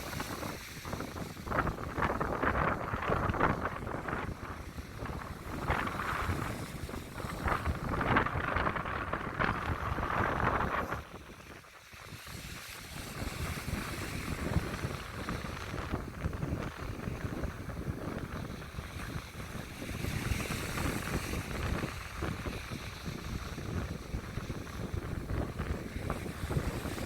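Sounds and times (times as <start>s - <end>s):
sea waves washing onto a beach: 0.0s - 27.0s
wind buffeting the microphone: 0.0s - 27.0s.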